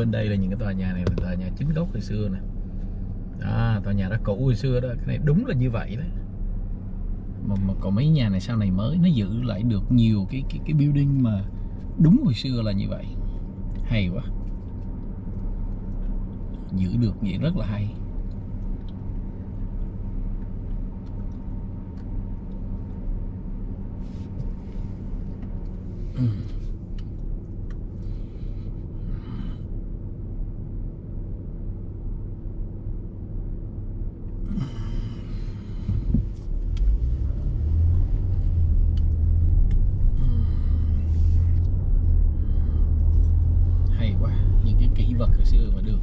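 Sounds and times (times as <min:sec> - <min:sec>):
car driving: 0:00.0 - 0:46.0
car engine idling: 0:00.0 - 0:46.0.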